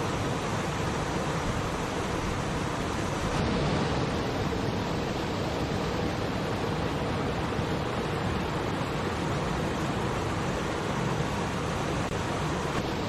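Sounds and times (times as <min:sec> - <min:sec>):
waterfall splashing over boulders: 0:00.0 - 0:13.0.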